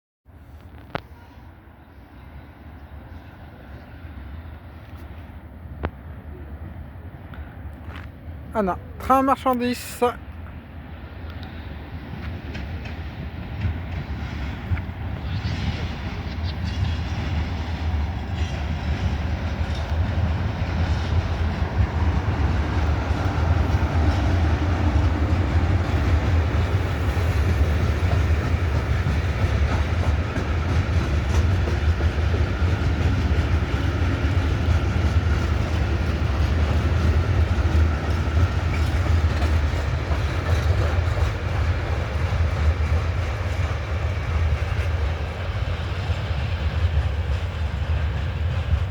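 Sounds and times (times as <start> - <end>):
freight train rumbling on rails: 0.3 - 48.9.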